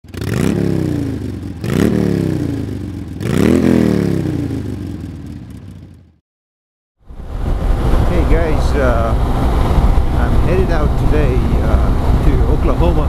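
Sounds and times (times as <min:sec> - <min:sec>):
motorcycle engine revving: 0:00.0 - 0:06.2, 0:07.5 - 0:13.0.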